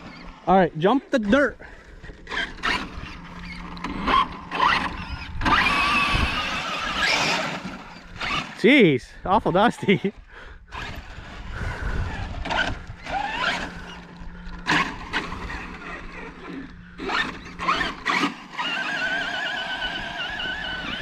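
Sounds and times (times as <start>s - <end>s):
electric motor whining: 0.0s - 0.5s, 1.2s - 8.7s, 10.6s - 21.0s.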